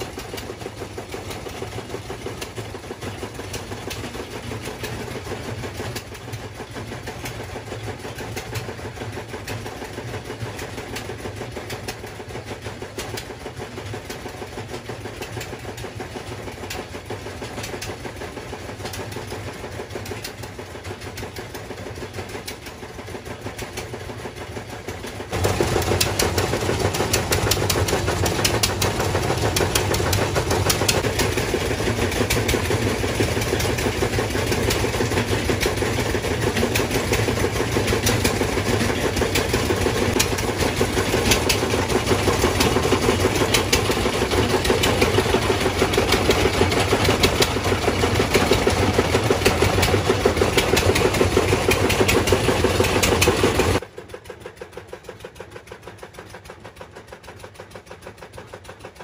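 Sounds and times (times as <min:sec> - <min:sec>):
small engine clattering: 0:00.0 - 0:59.0.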